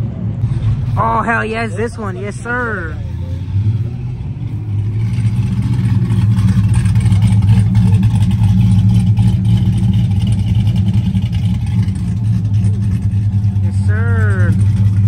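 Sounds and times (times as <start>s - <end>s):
car exhaust low note: 0.0s - 15.0s.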